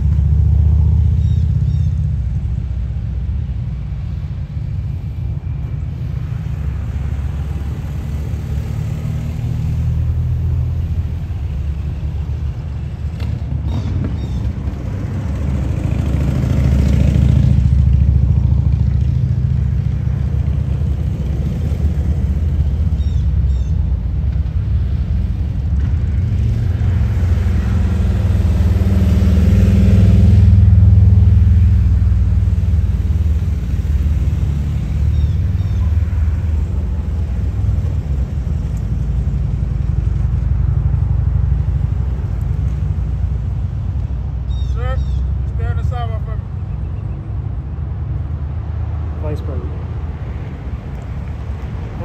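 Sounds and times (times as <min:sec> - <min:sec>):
vehicles driving past: 0:00.0 - 0:52.0.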